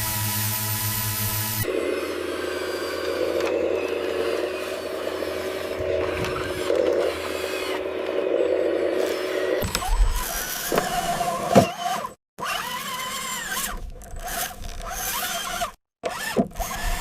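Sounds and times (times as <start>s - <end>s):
small motor and gears whirring: 0.0s - 17.0s.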